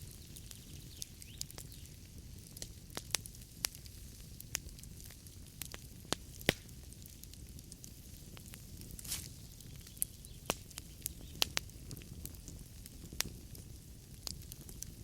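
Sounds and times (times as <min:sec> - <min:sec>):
burning logs crackling: 0:00.0 - 0:15.0
fire rumble and hiss: 0:00.0 - 0:15.0.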